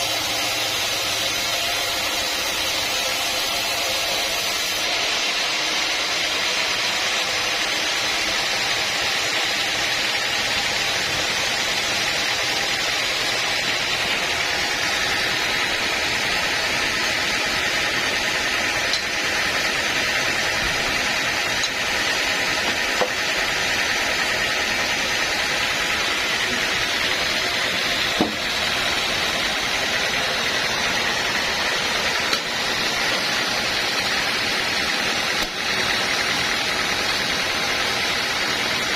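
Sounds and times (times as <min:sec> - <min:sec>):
sawmill machinery hissing: 0:00.0 - 0:38.9.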